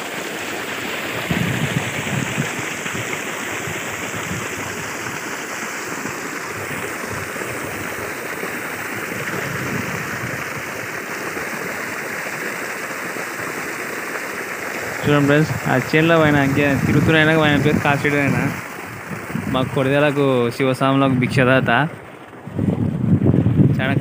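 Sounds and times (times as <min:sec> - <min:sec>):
water gushing over soil: 0:00.0 - 0:24.0.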